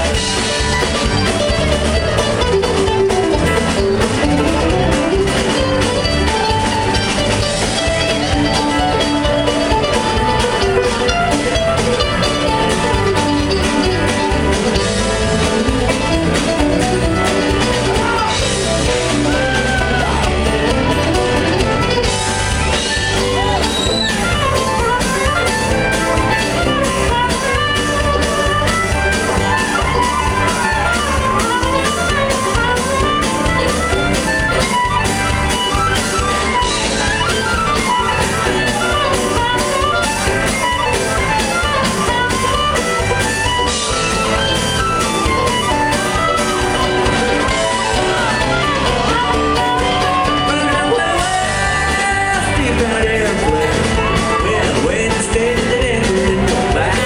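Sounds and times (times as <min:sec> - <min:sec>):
band playing: 0:00.0 - 0:57.0
harmonica lead: 0:00.0 - 0:57.0.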